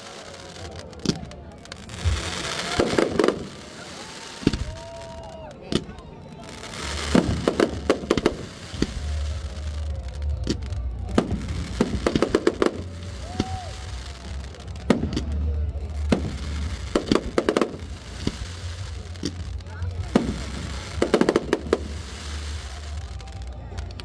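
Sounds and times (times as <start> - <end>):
fireworks cracking: 0.0 - 24.0.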